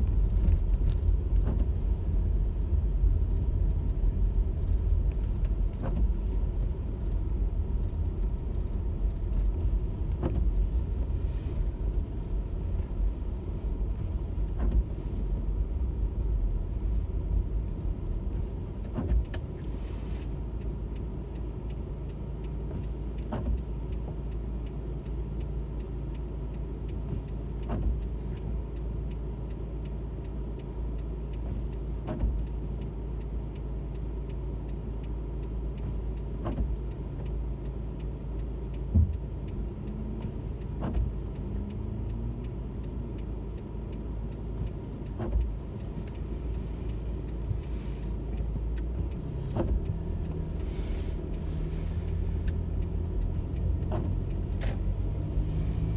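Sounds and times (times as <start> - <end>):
car engine and tyres rumbling: 0.0 - 55.9
faint clicks: 0.1 - 55.9.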